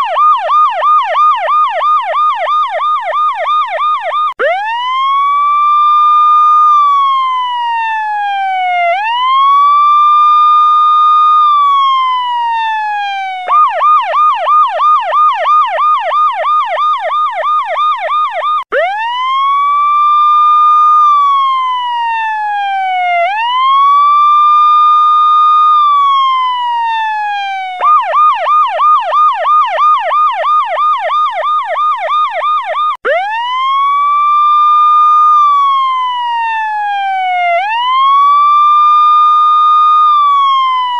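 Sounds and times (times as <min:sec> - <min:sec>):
electronic siren wailing and yelping: 0:00.0 - 0:40.9.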